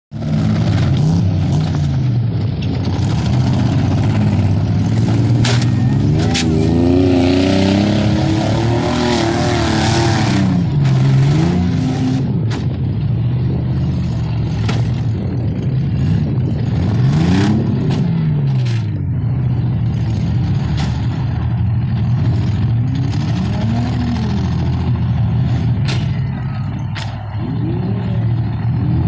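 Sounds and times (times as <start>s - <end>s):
car engines revving: 0.1s - 29.0s.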